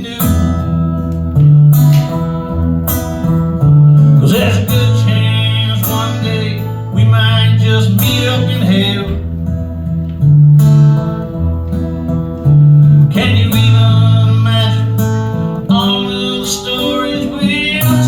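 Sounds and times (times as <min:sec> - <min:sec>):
acoustic guitar strumming chords: 0:00.0 - 0:18.0
bass line: 0:00.0 - 0:18.0.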